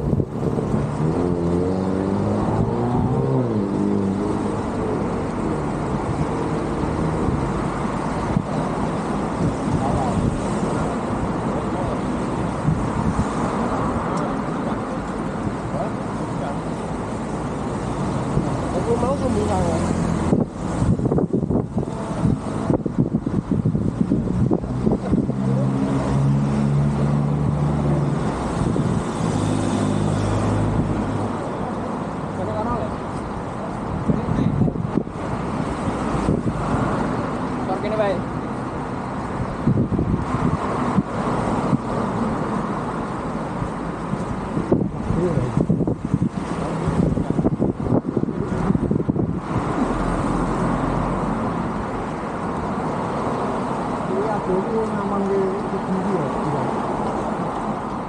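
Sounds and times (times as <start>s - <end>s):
car engines humming: 0.0s - 58.0s
road traffic passing: 0.0s - 58.0s
wind gusting on microphone: 0.0s - 58.0s.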